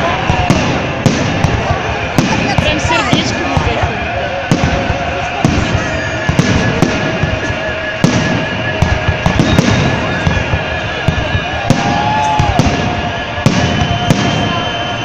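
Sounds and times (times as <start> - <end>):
fireworks bursting bangs: 0.0 - 15.0.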